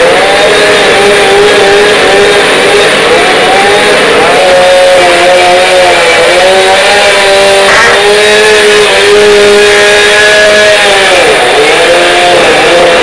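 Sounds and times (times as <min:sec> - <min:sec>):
engine running with pitched hum: 0:00.0 - 0:13.0.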